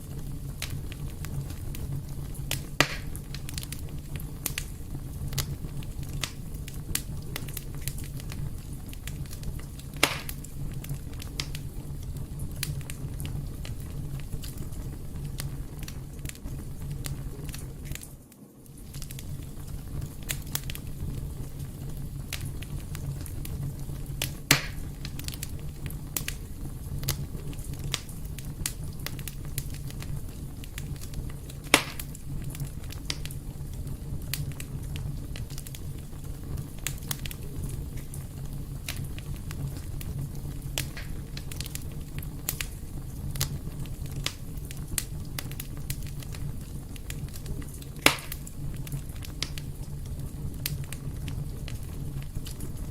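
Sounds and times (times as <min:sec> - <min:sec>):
fire crackling: 0:00.0 - 0:52.9
fire popping: 0:00.0 - 0:52.9.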